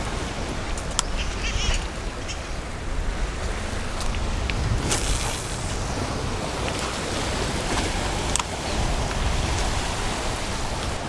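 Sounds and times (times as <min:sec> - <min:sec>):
small waves washing on rocks: 0:00.0 - 0:11.0
wind buffeting microphone: 0:00.0 - 0:11.0.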